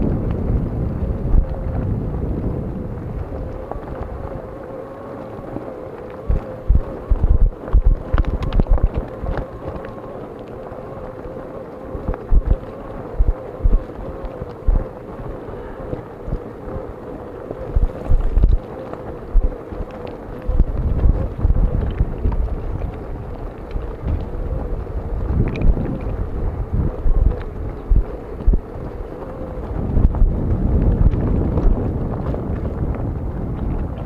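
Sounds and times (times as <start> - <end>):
bike tyres rolling hum: 0.0 - 34.0
wind buffeting microphone: 0.0 - 34.0.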